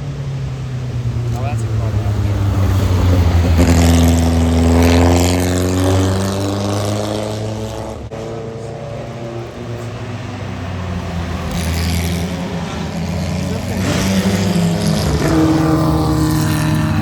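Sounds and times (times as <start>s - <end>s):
engine running steadily: 0.0s - 17.0s
racing car engine passing by: 0.0s - 17.0s.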